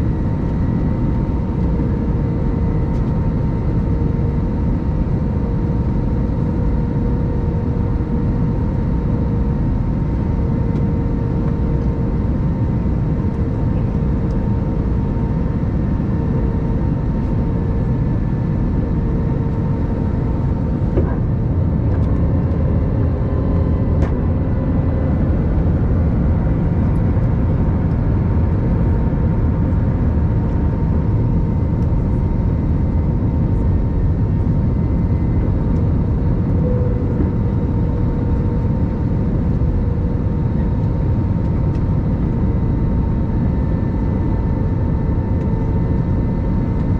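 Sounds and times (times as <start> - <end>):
airplane cabin roar: 0.0 - 46.9.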